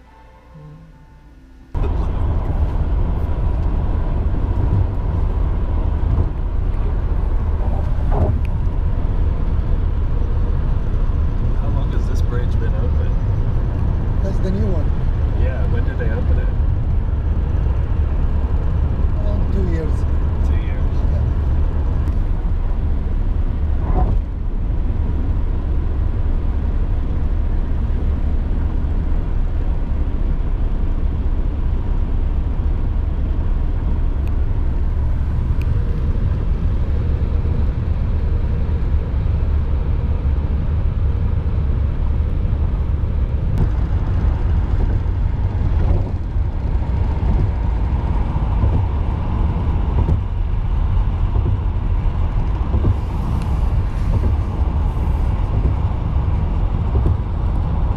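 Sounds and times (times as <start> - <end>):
car driving on highway: 0.0 - 57.9.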